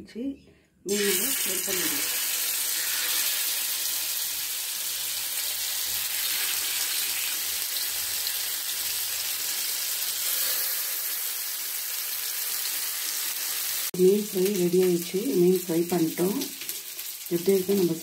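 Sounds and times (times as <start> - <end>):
fish sizzling in oil: 0.9 - 18.0.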